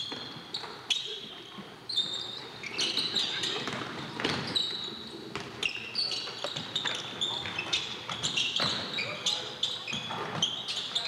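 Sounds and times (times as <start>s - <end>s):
sneakers squeaking: 0.0s - 11.0s
voices in a hall: 0.0s - 11.0s.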